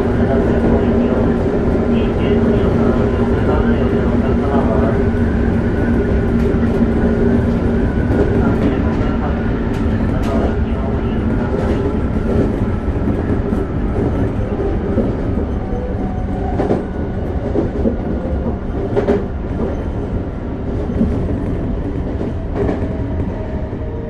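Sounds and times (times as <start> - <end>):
steady train hum: 0.0 - 24.0
wheels rumbling on rail: 0.0 - 24.0.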